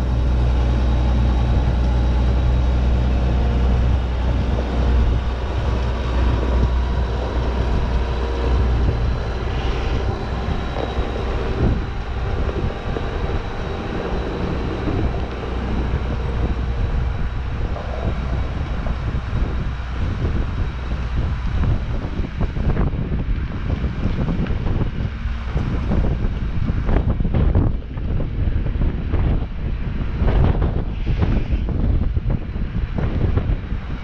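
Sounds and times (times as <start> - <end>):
farm machine engine rumbling: 0.0 - 34.0
high whine: 0.0 - 34.0.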